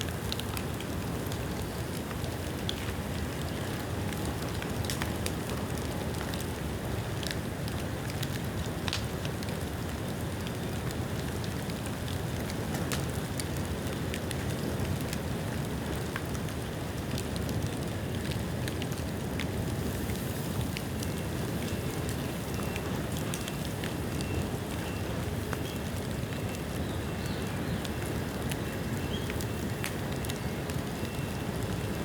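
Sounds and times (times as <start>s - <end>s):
fire crackling and popping: 0.0s - 32.0s
bonfire flames rushing: 0.1s - 32.0s.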